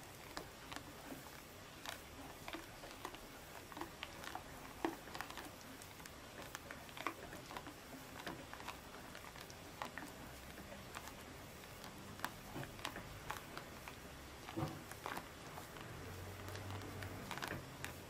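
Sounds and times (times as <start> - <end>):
wet clicks and squelches: 0.0 - 18.0.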